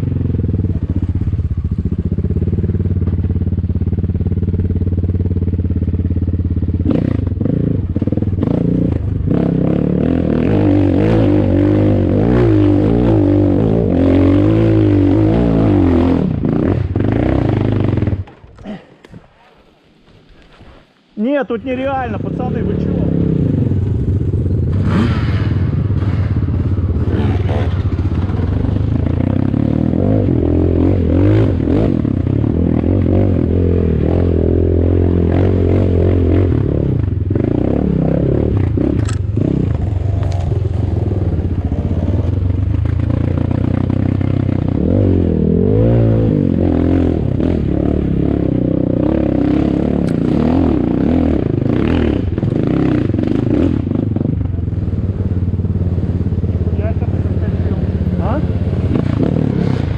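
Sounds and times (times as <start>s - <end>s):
dirt bike engine revving: 1.7s - 18.8s, 21.2s - 59.9s.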